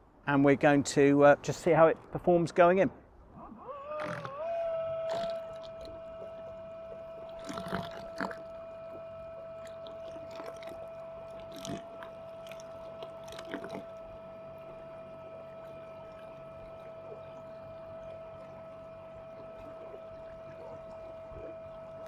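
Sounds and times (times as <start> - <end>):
water splashing against hull: 3.1 - 22.0
electric motor whining: 3.6 - 22.0.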